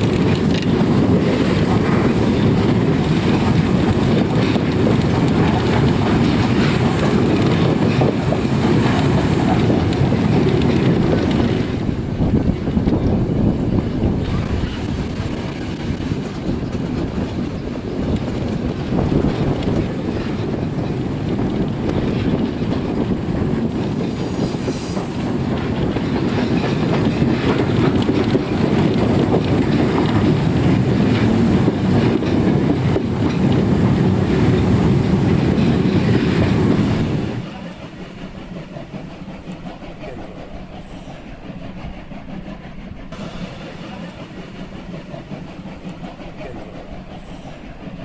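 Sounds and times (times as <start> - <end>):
train rumbling on track: 0.0 - 48.0.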